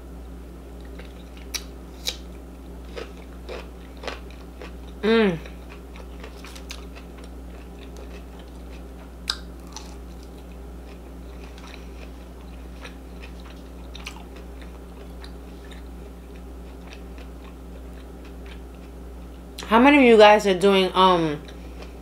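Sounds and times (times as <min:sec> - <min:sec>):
steady low hum: 0:00.0 - 0:22.0
person chewing food: 0:00.8 - 0:19.4.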